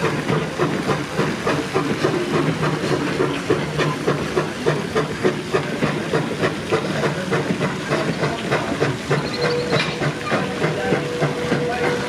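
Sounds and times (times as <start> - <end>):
steam hiss: 0.0 - 12.0
steam locomotive exhaust chuffs: 0.0 - 12.0.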